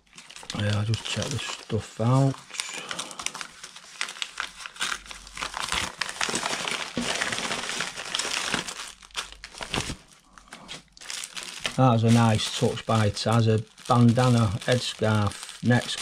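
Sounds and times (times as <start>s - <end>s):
paper envelope crinkling and tearing: 0.0s - 16.0s.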